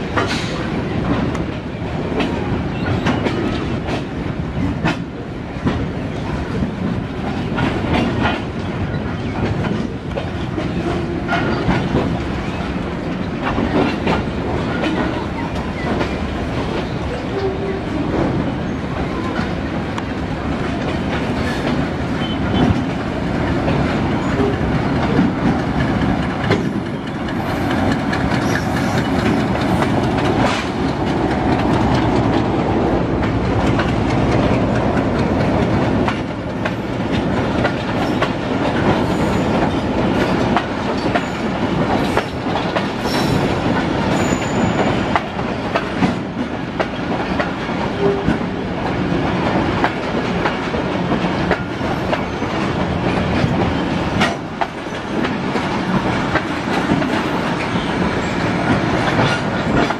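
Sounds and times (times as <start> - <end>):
rumble of moving train cars: 0.0 - 59.9
train wheels clickety-clack: 0.0 - 59.9.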